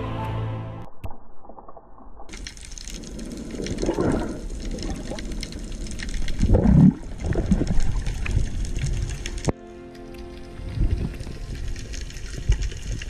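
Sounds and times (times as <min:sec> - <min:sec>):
muffled underwater rushing water: 0:01.0 - 0:13.0.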